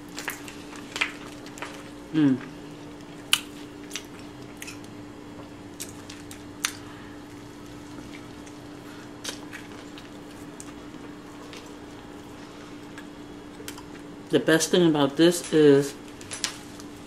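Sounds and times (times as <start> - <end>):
steady low hum: 0.0 - 17.0
chewing sandwich: 0.1 - 14.1.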